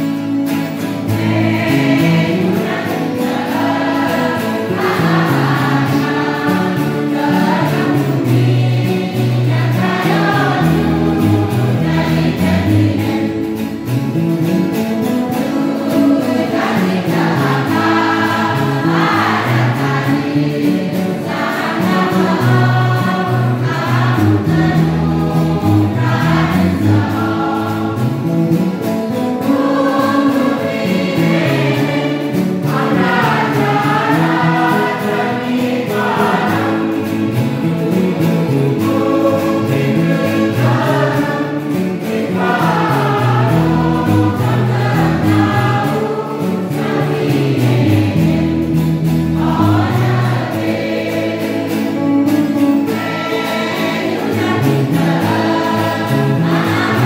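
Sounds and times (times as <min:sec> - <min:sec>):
choir singing a hymn: 0:00.0 - 0:57.0
guitars playing: 0:00.0 - 0:57.0.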